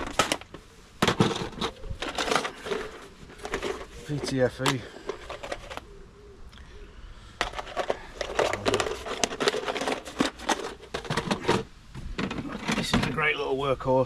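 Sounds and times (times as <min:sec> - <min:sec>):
tools rattling in toolbox: 0:00.0 - 0:05.8, 0:07.4 - 0:13.2.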